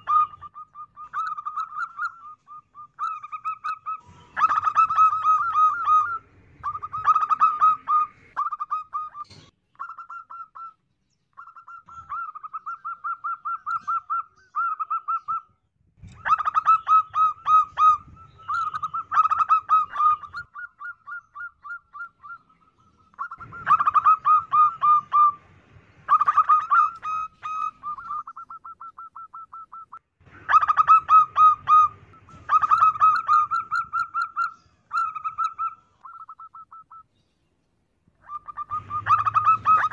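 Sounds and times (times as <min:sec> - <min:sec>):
dove cooing: 0:00.0 - 0:10.8, 0:11.4 - 0:37.0, 0:38.2 - 0:39.9.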